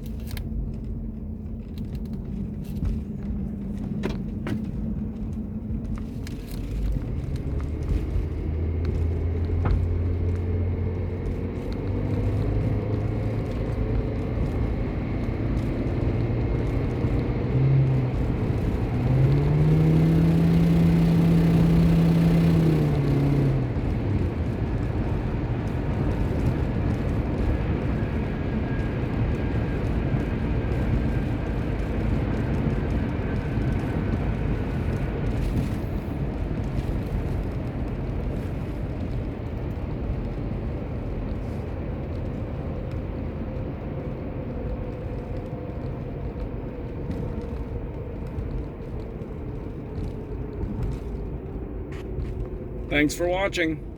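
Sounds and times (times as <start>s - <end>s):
car engine running: 0.0s - 53.9s
road noise: 0.0s - 53.9s.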